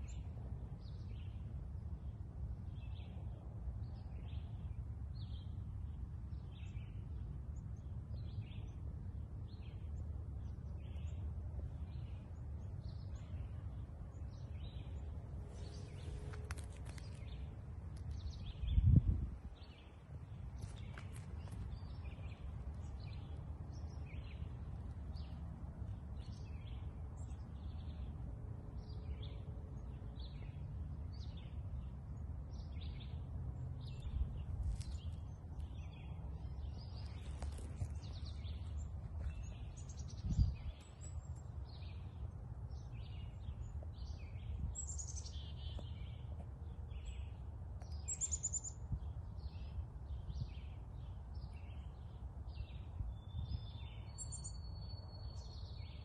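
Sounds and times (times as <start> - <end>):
low outdoor rumble: 0.0 - 56.0
small birds chirping: 9.5 - 28.2, 28.8 - 56.0.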